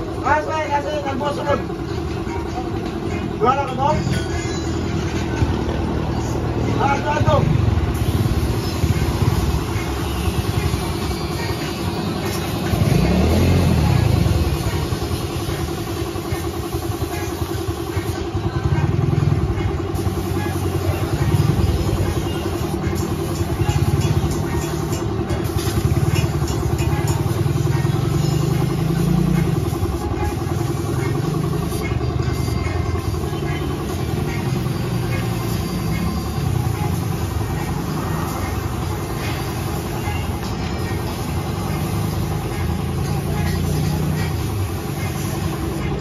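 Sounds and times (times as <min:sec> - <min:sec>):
air compressor running: 0:04.9 - 0:46.0
paint spray gun hissing: 0:07.8 - 0:19.0, 0:19.7 - 0:46.0.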